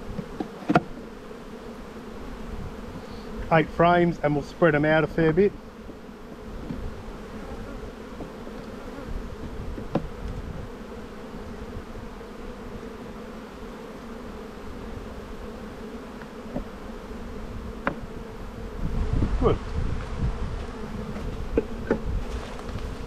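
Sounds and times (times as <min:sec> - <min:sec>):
honeybees humming: 0:00.0 - 0:23.0.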